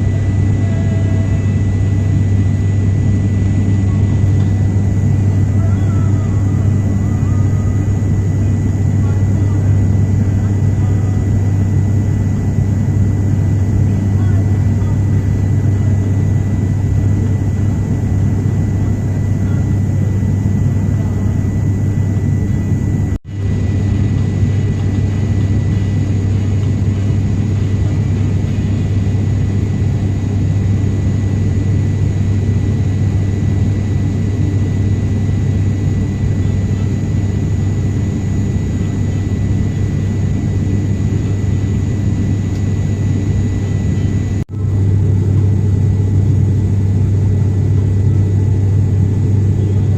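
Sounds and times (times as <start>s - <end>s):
airliner engines droning: 0.0s - 49.9s.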